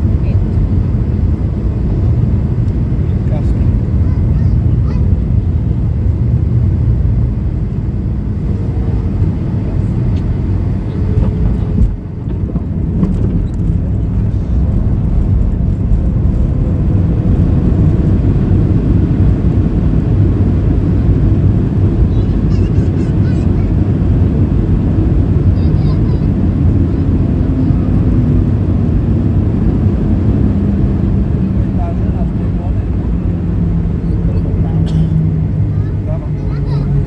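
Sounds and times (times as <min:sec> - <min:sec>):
aircraft cabin engine rumble: 0:00.0 - 0:37.0
runway rollout rumble: 0:00.0 - 0:37.0.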